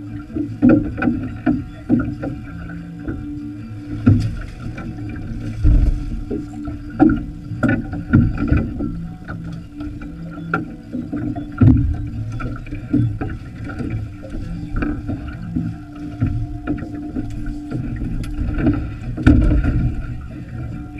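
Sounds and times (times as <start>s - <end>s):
steady low hum: 0.0s - 20.9s
water slapping boat hull: 0.0s - 20.9s.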